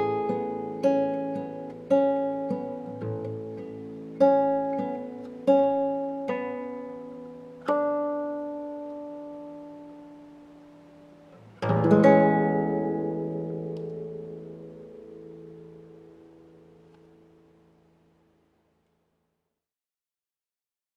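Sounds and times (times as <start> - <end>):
classical guitar playing slow notes: 0.0 - 18.8.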